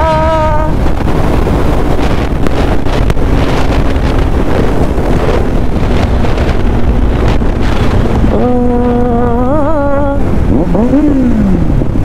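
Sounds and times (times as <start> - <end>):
faint motorcycle engine: 0.0 - 12.0
wind rushing on microphone: 0.0 - 12.0.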